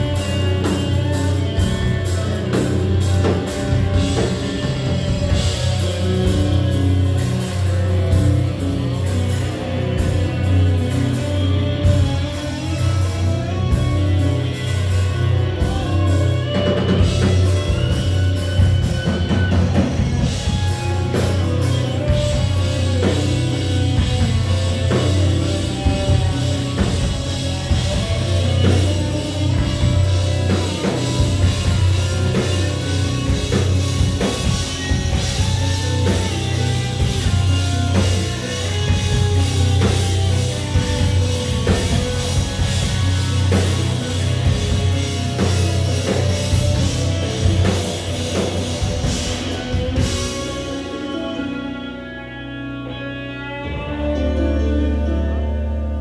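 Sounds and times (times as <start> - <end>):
bass guitar: 0.0 - 56.0
drum kit: 0.0 - 56.0
electric guitar: 0.0 - 56.0
keyboard: 0.0 - 56.0.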